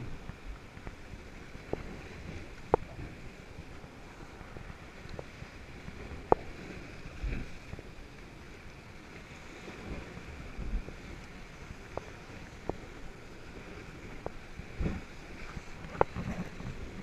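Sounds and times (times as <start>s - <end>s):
kayak paddle strokes: 0.0s - 17.0s
water lapping: 0.0s - 17.0s.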